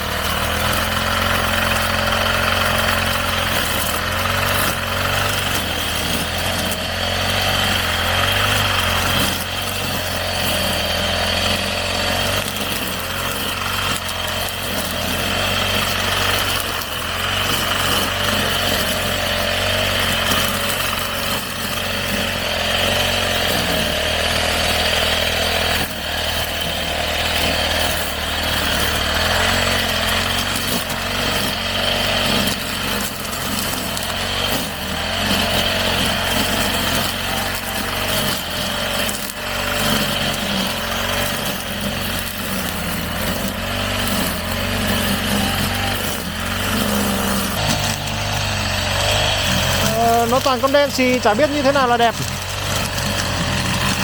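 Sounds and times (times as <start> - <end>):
grass trimmer engine running: 0.0 - 54.0.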